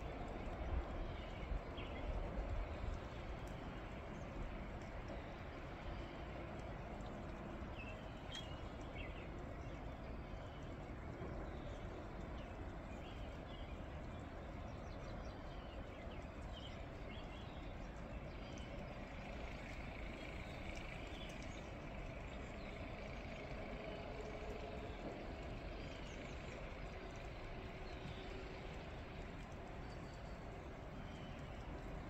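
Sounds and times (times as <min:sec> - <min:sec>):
distant traffic drone: 0:00.0 - 0:32.0.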